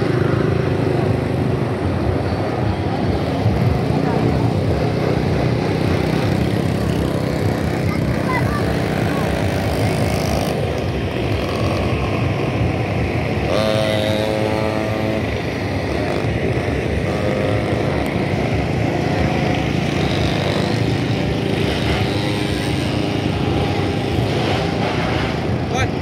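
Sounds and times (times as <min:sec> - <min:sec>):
nearer engine buzzing: 0:00.0 - 0:26.0
small engines droning: 0:00.0 - 0:26.0.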